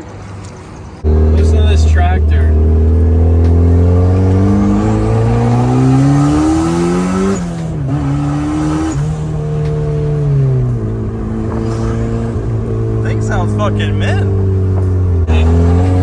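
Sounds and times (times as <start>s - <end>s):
car engine accelerating: 1.0s - 16.0s.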